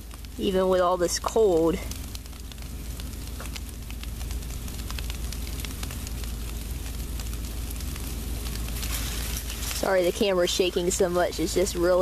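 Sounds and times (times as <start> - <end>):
low rumble: 0.0 - 12.0
sleet pellets pattering: 0.0 - 12.0.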